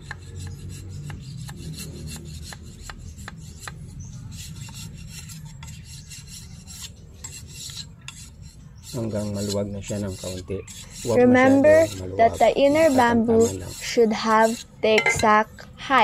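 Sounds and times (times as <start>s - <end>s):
knife blade scraping bamboo: 0.0s - 15.4s.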